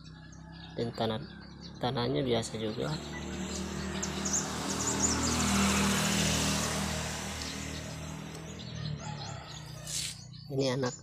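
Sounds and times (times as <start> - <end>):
passing vehicle engine hum: 0.0 - 10.9.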